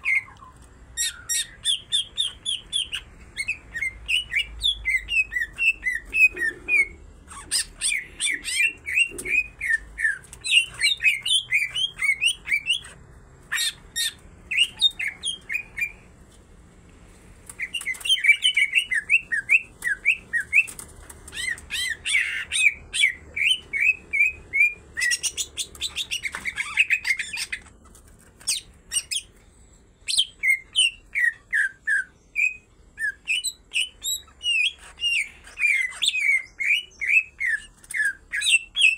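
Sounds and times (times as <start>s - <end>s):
bird chirping song: 0.0s - 16.2s, 17.5s - 38.9s.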